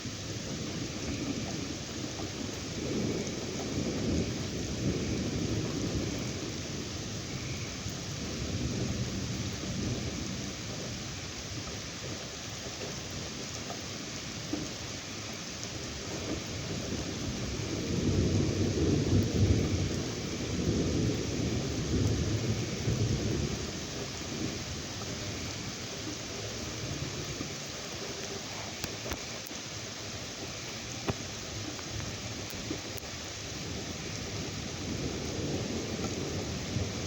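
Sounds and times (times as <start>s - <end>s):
low rolling thunder: 0.0s - 29.4s, 30.1s - 37.0s
heavy rain: 0.0s - 37.0s.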